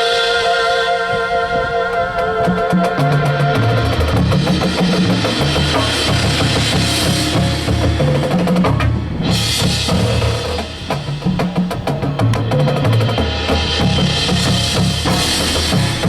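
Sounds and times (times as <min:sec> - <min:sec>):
cymbal-like swell: 0:00.0 - 0:16.0.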